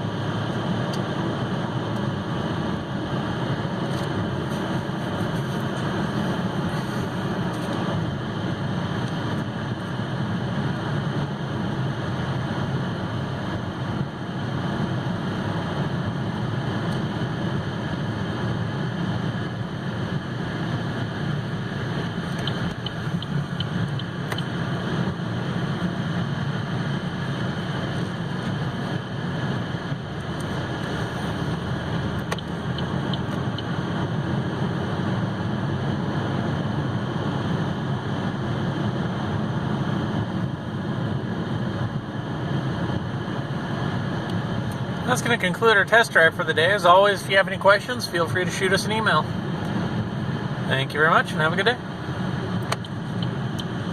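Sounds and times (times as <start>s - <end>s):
low engine hum: 0.0s - 53.9s
road and tyre noise: 0.0s - 53.9s.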